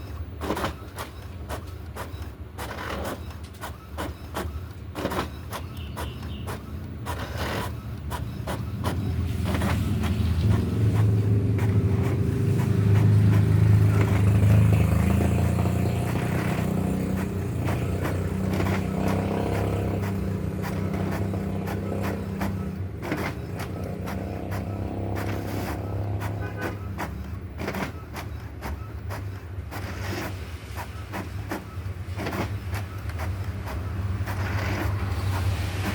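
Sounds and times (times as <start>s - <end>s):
printer humming with clicks: 0.0s - 35.9s.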